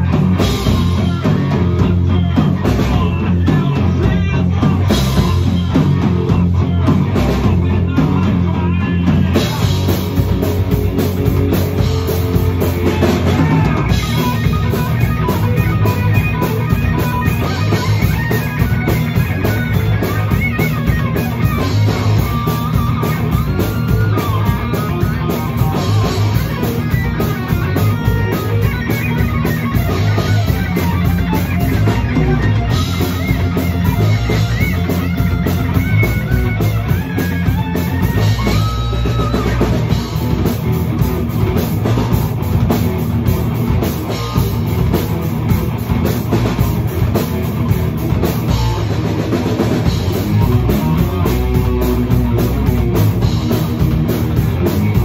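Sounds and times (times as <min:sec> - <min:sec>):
drum kit: 0:00.0 - 0:55.0
electric guitar: 0:00.0 - 0:55.0.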